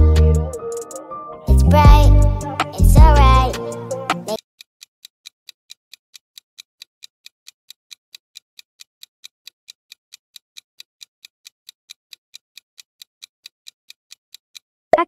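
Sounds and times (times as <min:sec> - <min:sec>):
rapid clock ticking: 0:01.8 - 0:14.6.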